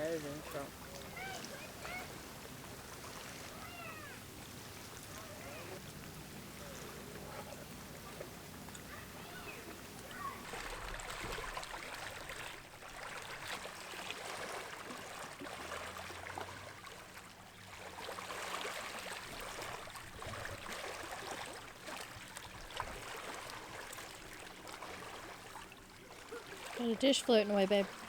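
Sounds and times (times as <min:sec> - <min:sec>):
lake water lapping at shore: 0:00.0 - 0:28.0.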